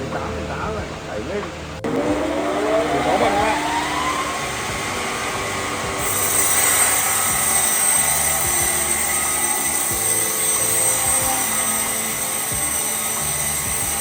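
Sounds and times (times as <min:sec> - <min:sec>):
machine running with high whine: 0:01.8 - 0:14.0.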